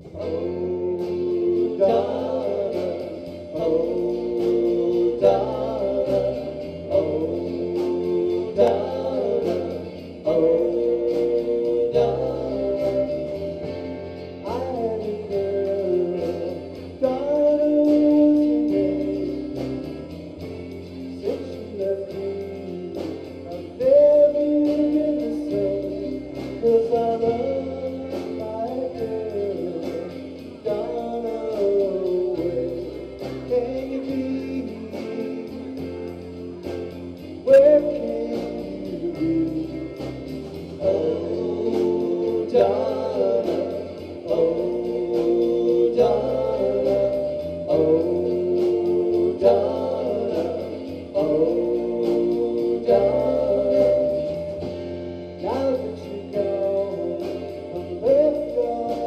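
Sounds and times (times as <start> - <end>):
drum kit: 0.0 - 59.0
electric bass: 0.0 - 59.0
electric guitars: 0.0 - 59.0
person singing: 0.0 - 59.0.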